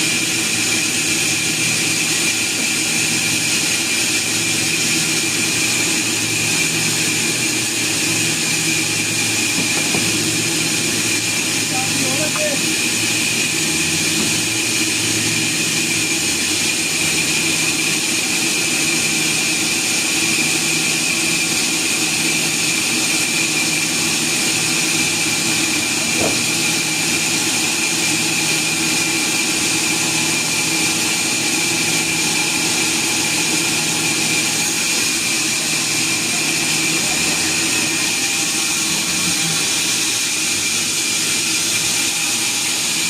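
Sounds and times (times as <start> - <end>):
sawmill machinery whine and hum: 0.0 - 43.0.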